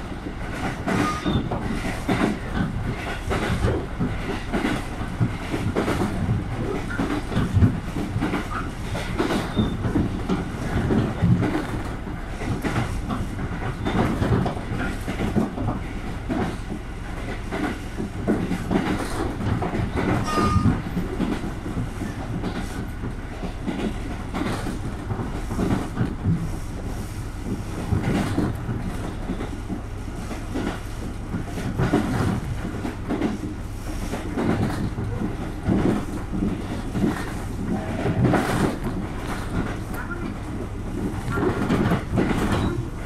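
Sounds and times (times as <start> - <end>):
train rumble: 0.0 - 43.0
wheels clicking over rail joints: 0.4 - 43.0.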